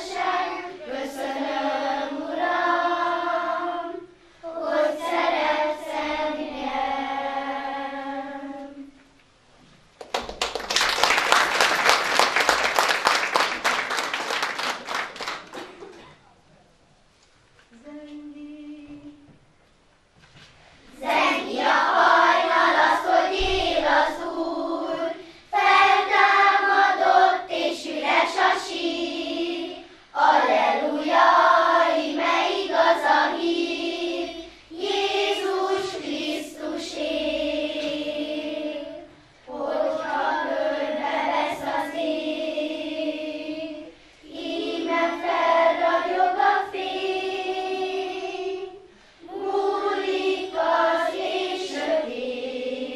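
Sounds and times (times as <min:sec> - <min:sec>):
girls choir singing unaccompanied: 0:00.0 - 0:09.2, 0:17.7 - 0:19.5, 0:20.9 - 0:52.9.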